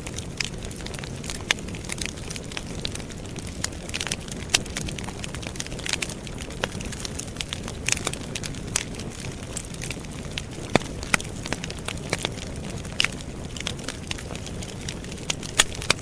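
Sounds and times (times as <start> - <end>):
campfire flames rushing: 0.0 - 16.0
logs crackling and popping: 0.0 - 16.0.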